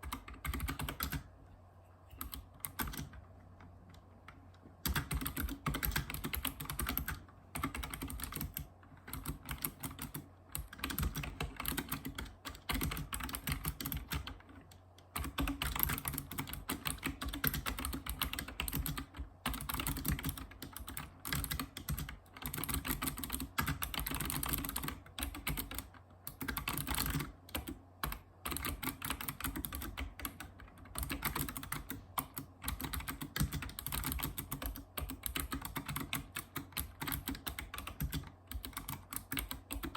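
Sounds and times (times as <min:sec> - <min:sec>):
keyboard typing clicks: 0:00.0 - 0:01.3, 0:02.1 - 0:39.9.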